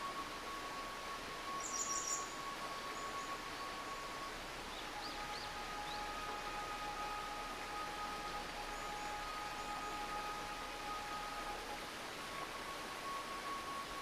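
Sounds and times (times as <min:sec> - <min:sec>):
babbling stream: 0:00.0 - 0:14.0
songbirds calling: 0:00.0 - 0:14.0.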